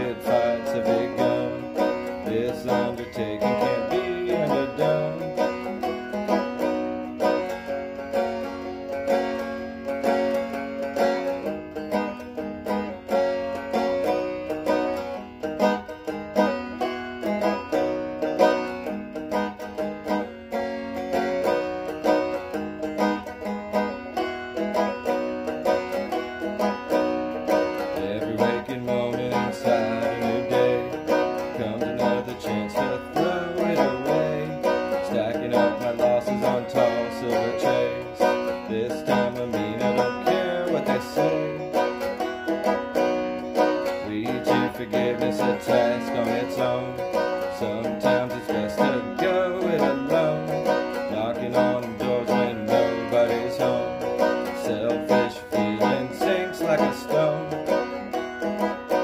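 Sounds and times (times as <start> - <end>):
banjo picking: 0.0 - 59.0
lower notes under picking: 0.0 - 59.0.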